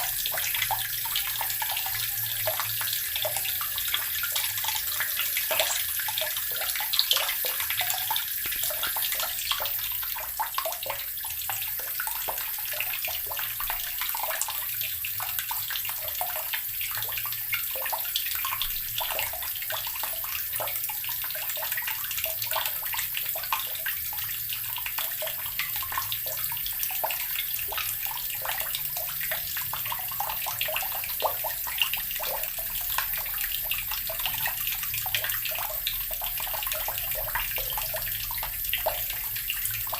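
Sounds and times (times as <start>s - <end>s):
tap water splashing into basin: 0.0s - 39.9s.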